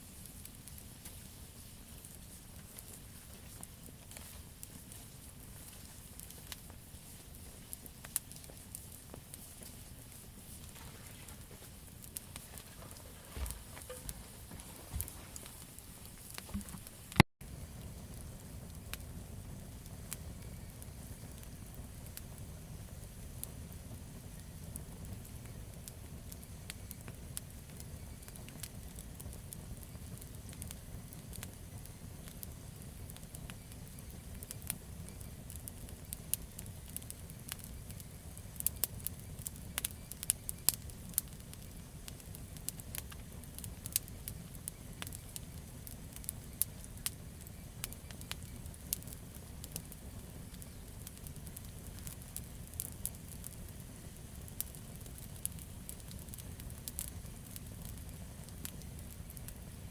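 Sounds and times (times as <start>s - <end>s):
campfire burning: 0.0s - 59.9s
fire crackling and popping: 0.0s - 59.9s.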